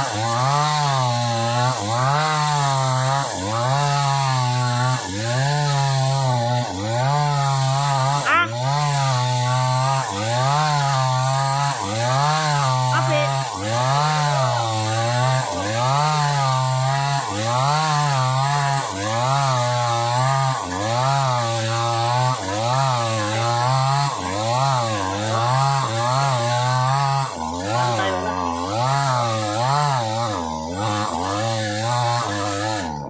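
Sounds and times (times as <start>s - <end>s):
chainsaw cutting hard wood: 0.0s - 33.0s.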